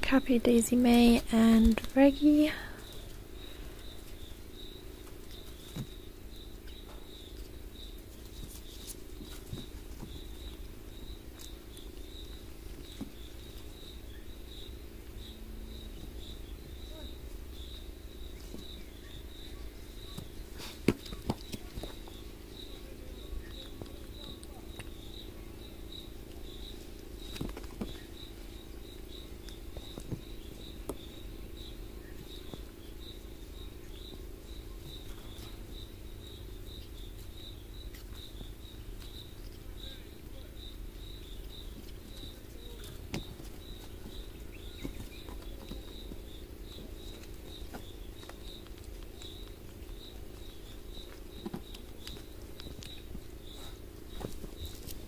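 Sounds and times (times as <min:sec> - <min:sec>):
insect chirping: 0:00.0 - 0:55.0.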